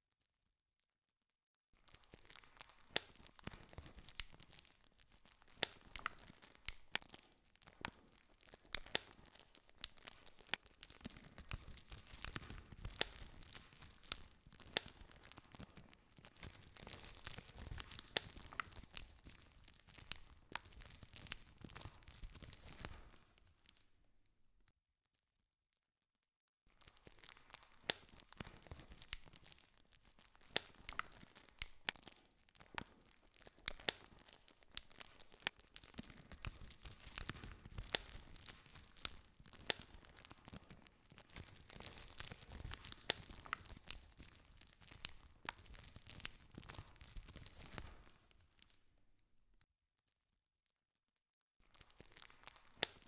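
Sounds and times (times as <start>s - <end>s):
campfire crackling and popping: 1.8s - 23.8s, 26.8s - 48.8s, 51.7s - 53.0s.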